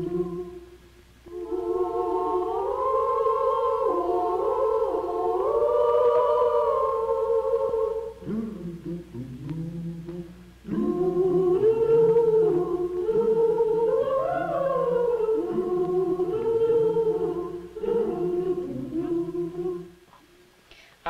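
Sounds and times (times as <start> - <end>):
unaccompanied voices singing: 0.0 - 20.3.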